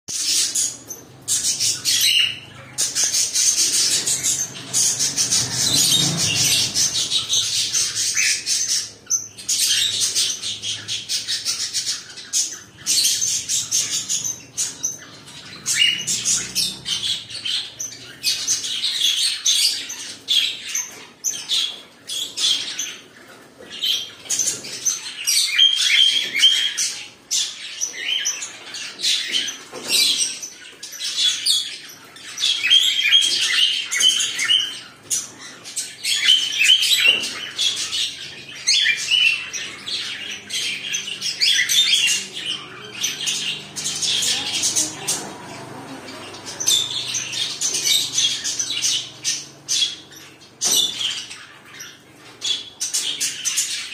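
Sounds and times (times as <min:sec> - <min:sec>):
cockatiels chirping and squawking: 0:00.1 - 0:53.9.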